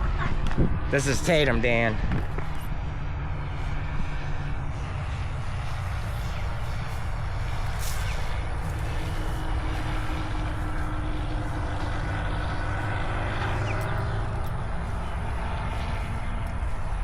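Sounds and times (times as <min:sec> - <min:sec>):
distant paramotor engine droning: 0:00.0 - 0:17.0
wind rumble on microphone: 0:00.0 - 0:17.0.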